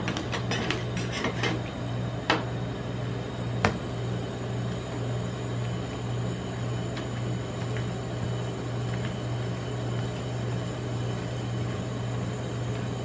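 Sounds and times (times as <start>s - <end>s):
cold-plate machine hum: 0.0s - 13.0s.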